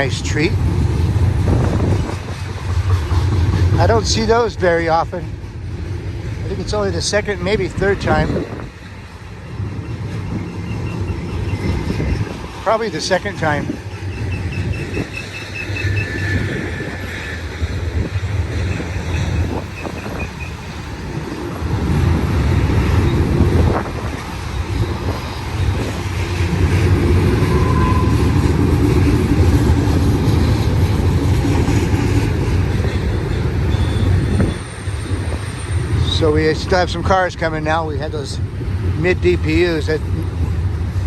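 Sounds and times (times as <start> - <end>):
freight train rumbling on rails: 0.0 - 41.0.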